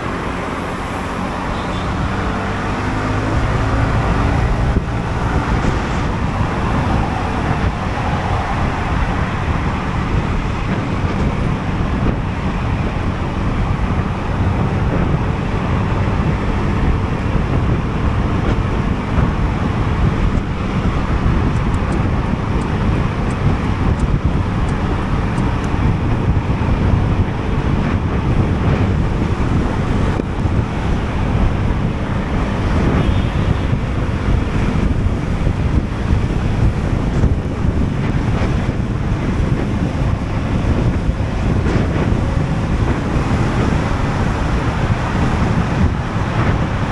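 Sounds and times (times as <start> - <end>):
road and traffic noise: 0.0 - 46.9
wind buffeting microphone: 0.0 - 46.9.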